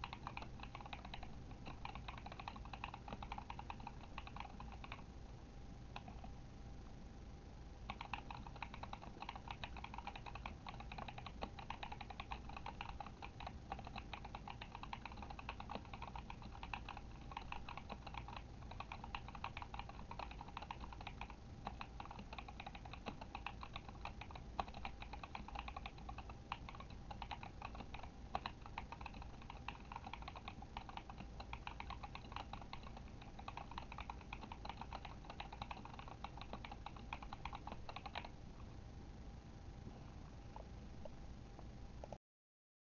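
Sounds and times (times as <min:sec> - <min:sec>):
mechanical keyboard typing: 0:00.0 - 0:05.1, 0:06.0 - 0:06.3, 0:07.9 - 0:38.4.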